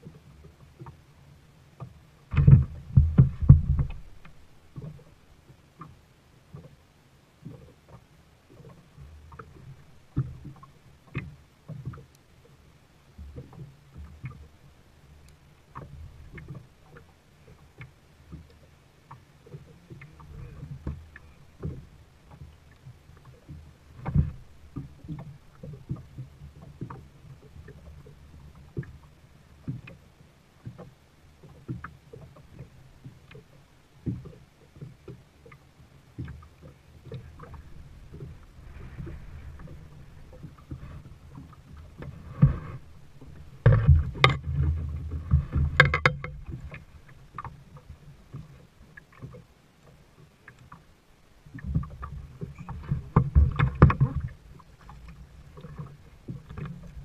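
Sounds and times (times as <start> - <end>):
paddle strokes in water: 0.0 - 57.0.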